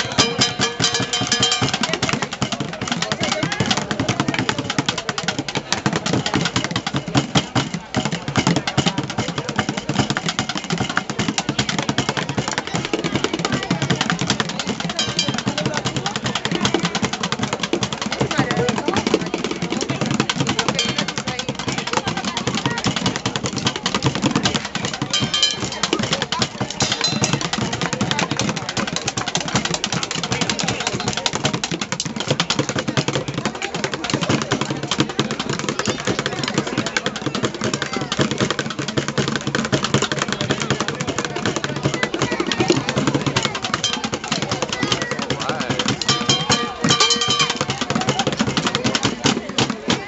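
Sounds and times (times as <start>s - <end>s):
bucket drums played with sticks: 0.0s - 50.0s.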